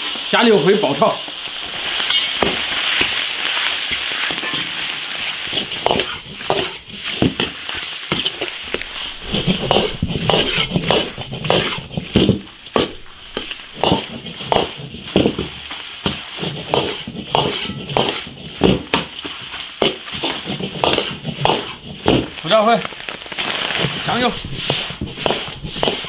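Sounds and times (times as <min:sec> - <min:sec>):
hot oil sizzling: 0:00.0 - 0:26.0
metal ladle scraping wok: 0:01.3 - 0:19.4, 0:20.0 - 0:26.0.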